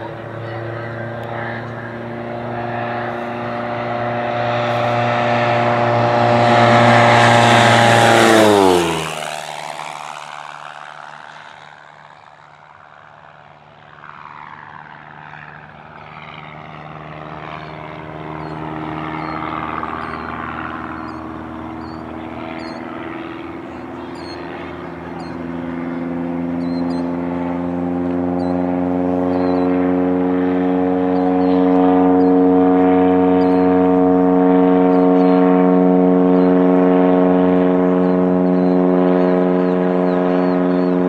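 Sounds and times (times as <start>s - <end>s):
propeller plane passing low: 0.0s - 41.0s.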